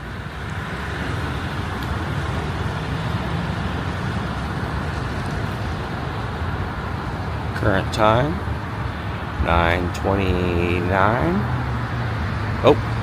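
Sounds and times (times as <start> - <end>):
road traffic rumble: 0.0 - 13.0
traffic hiss: 0.0 - 13.0.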